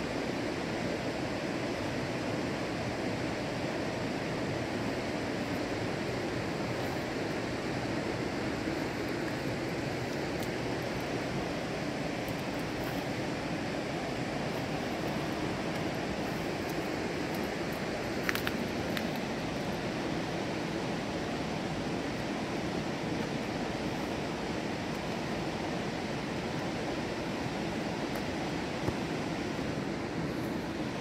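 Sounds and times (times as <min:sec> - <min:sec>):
fast-flowing river rushing: 0:00.0 - 0:31.0.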